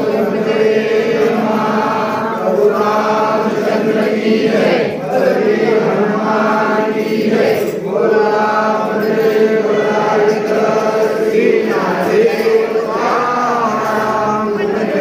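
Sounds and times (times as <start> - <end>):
crowd chanting a hymn: 0.0 - 15.0.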